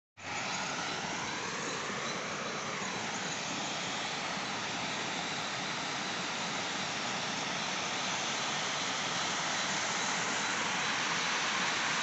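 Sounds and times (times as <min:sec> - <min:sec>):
stream water rushing over rocks: 0:01.8 - 0:12.0.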